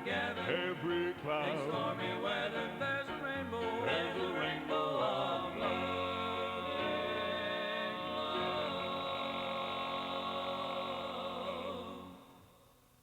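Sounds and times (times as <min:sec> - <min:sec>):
vocal group singing a hymn: 0:00.0 - 0:12.6.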